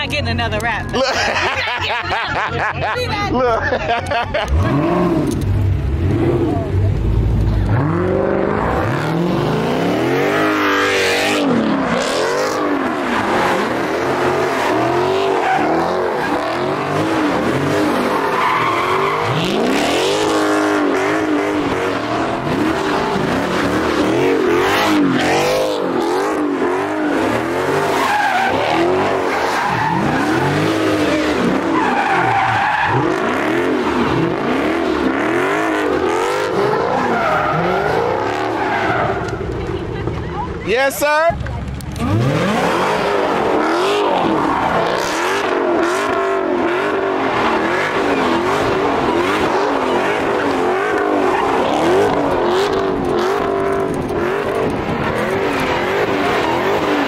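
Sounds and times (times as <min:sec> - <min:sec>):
car engine revving: 0:00.0 - 0:40.6, 0:41.3 - 0:57.0
tyres screeching on pavement: 0:04.6 - 0:57.0.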